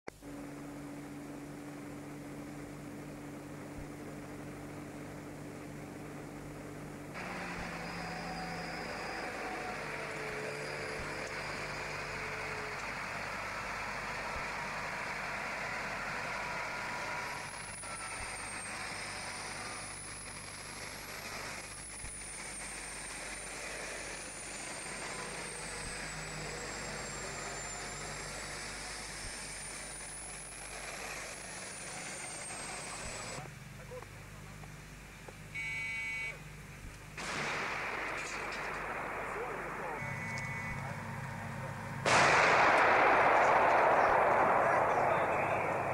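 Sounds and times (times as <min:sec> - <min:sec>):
heavy vehicles driving on dirt: 0:00.1 - 0:45.9.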